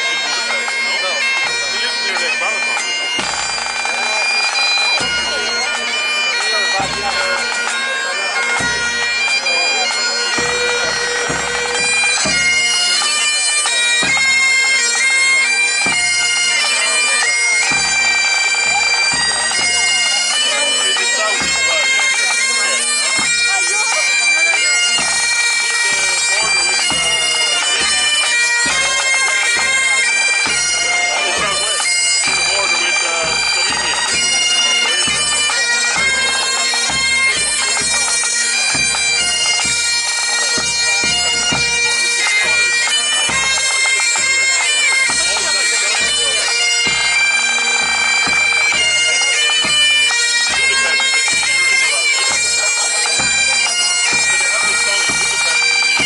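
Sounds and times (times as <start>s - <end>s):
bagpipe drones: 0.0s - 56.0s
bagpipes playing a tune: 0.0s - 56.0s.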